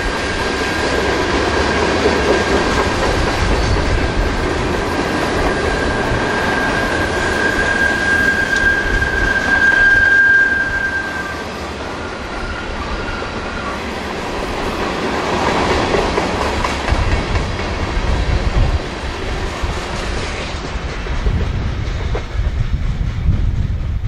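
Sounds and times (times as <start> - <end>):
deep train rumble: 0.0 - 24.0
train wheels on rails: 0.0 - 24.0.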